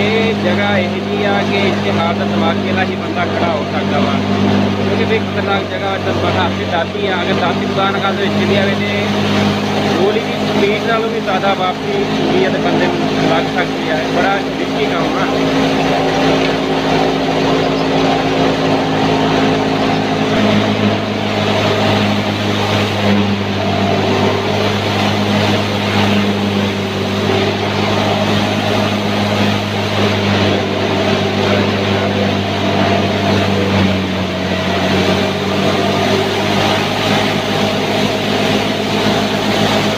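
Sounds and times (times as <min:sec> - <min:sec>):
wheat thresher humming: 0:00.0 - 0:39.9.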